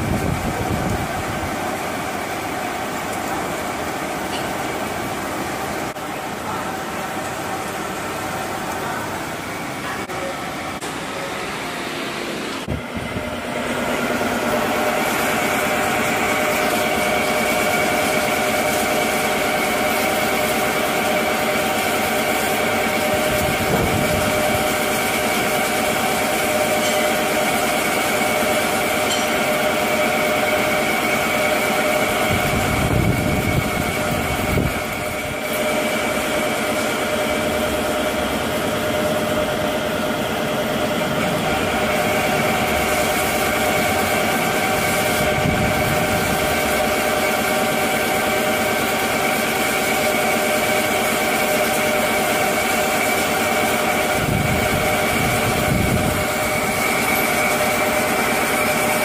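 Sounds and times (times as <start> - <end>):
lathe machine hum and whine: 0.0 - 59.0.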